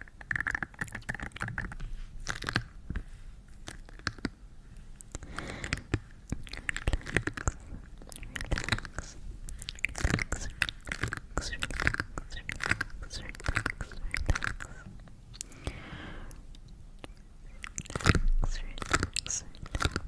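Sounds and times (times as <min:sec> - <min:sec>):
crisp crunching and clicking: 0:00.0 - 0:02.8, 0:03.6 - 0:04.4, 0:05.0 - 0:15.6, 0:16.6 - 0:20.0
small crackles: 0:00.0 - 0:04.4, 0:05.0 - 0:15.5, 0:16.6 - 0:20.0.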